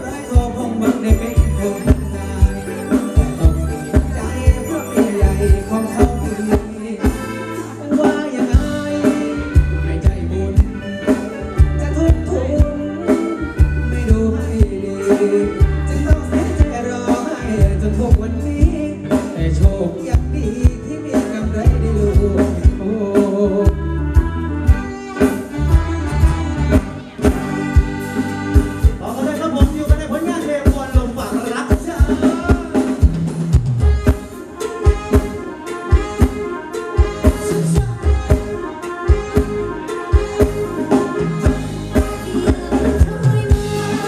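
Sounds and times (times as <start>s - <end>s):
person singing: 0.0s - 26.9s, 34.3s - 44.0s
bass guitar: 0.0s - 44.0s
electric guitar: 0.0s - 44.0s
steady drum beat: 0.0s - 44.0s.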